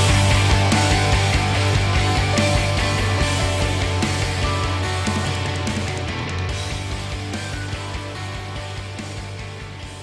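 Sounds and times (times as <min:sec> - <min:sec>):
band song with bass and drums: 0:00.0 - 0:10.0.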